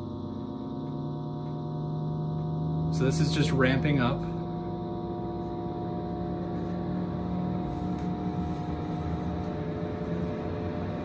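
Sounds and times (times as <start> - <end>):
extraction fan humming: 0.0 - 11.0.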